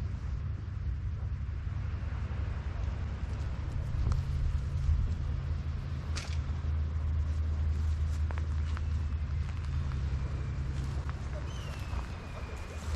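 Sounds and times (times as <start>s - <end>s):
low engine rumble: 0.0s - 12.9s.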